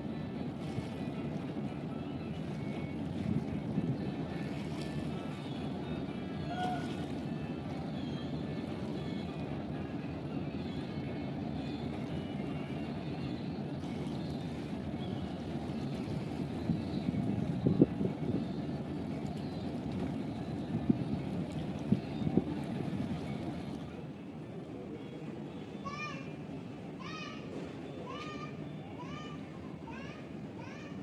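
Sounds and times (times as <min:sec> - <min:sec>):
ship engine rumble: 0:00.0 - 0:31.0.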